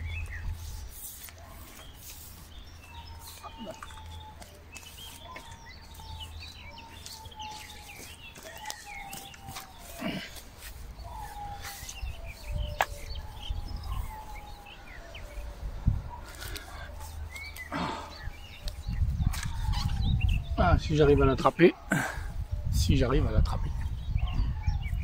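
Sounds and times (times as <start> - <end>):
small birds chirping: 0.0 - 25.0
wind rumbling on microphone: 0.0 - 25.0.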